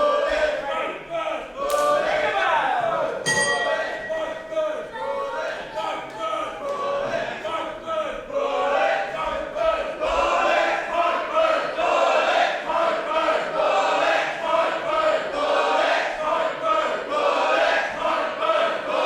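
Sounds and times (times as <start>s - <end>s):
crowd chanting in unison: 0.0s - 19.0s.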